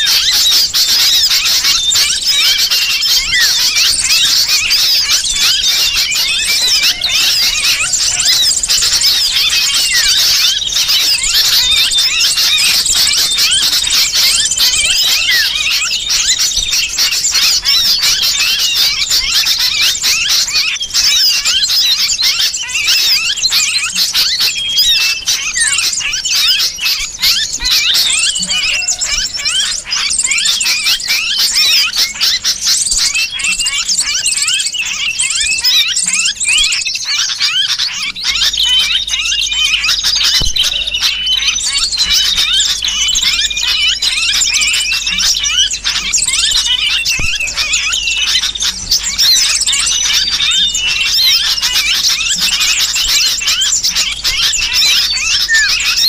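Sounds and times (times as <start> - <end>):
bird squealing distress calls: 0.0 - 56.0
small birds chirping: 0.0 - 56.0.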